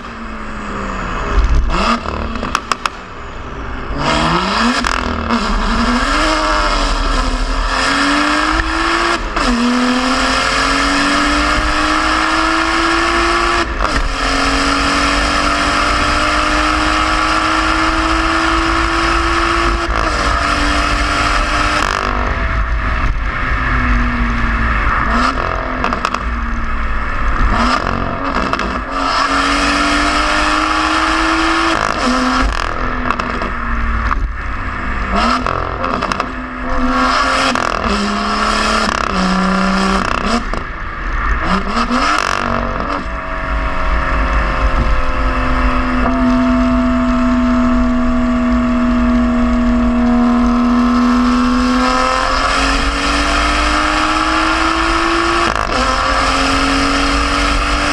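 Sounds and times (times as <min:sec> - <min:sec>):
car engine accelerating in tunnel: 0:00.0 - 0:57.9.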